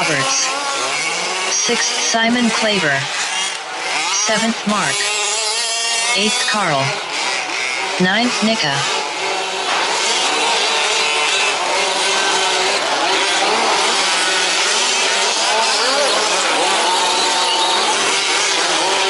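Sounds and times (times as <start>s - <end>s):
small engines buzzing and revving: 0.0s - 19.0s.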